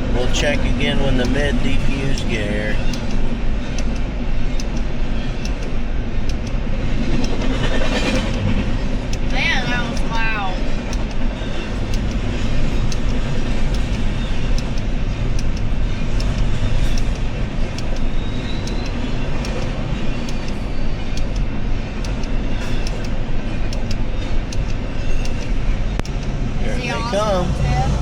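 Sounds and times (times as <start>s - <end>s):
wheels clicking on rails: 0.0s - 26.7s
freight train rumble: 0.0s - 28.0s.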